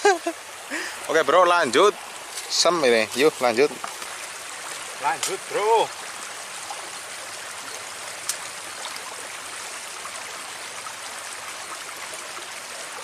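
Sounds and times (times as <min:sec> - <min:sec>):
water running in a ditch: 0:00.0 - 0:13.0.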